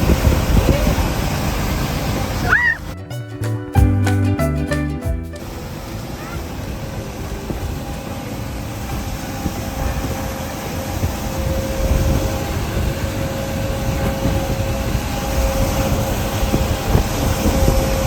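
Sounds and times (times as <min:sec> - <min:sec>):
heavy vehicle engine rumbling: 0:00.0 - 0:18.0.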